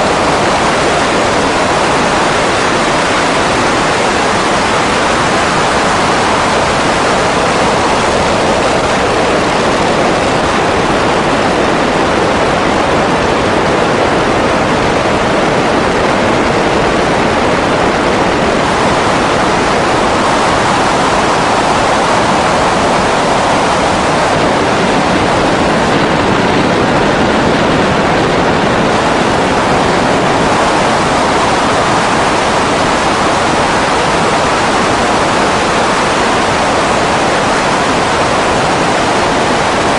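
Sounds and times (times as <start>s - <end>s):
wind and propeller wash roar: 0.0s - 39.9s.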